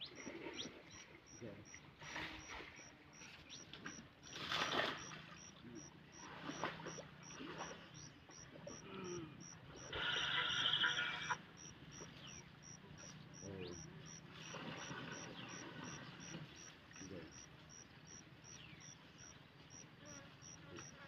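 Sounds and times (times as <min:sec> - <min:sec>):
faint calls: 0:00.0 - 0:21.0
insect chirping: 0:00.0 - 0:21.0.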